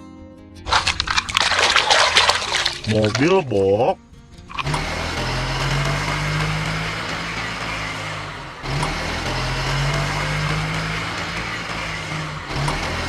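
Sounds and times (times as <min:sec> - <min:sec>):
truck engine running: 0:00.7 - 0:13.0.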